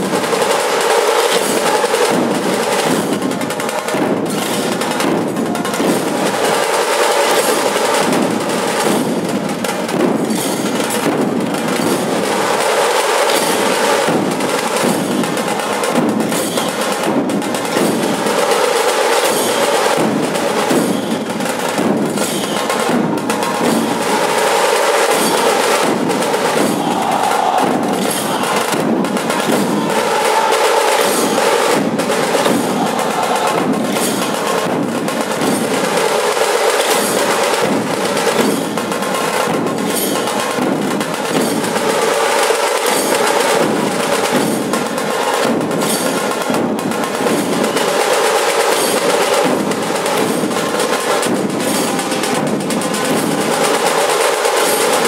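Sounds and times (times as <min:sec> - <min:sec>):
massed drums playing driving rhythm: 0:00.0 - 0:55.0.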